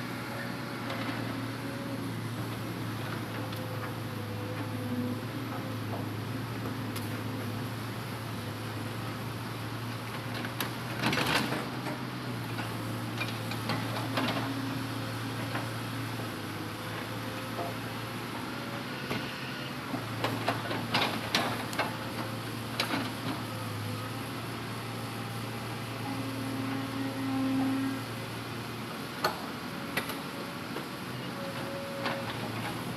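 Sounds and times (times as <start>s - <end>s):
excavator diesel engine humming: 0.0s - 32.9s.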